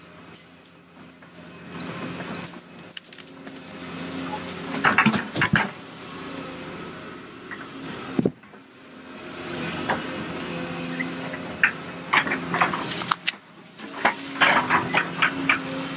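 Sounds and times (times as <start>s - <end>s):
heavy machine engine running: 0.0s - 15.9s.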